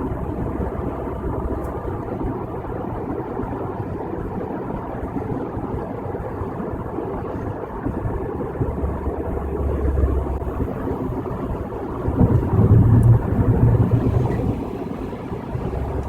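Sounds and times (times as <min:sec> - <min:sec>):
road and tyre noise in car: 0:00.0 - 0:16.0.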